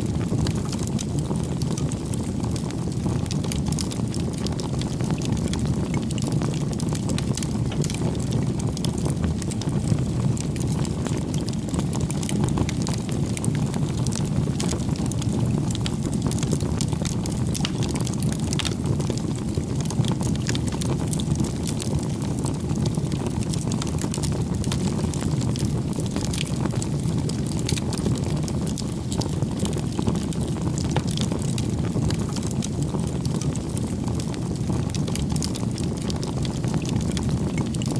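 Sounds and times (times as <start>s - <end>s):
fire crackling and popping: 0.0s - 37.9s
fire low rumble: 0.0s - 37.9s.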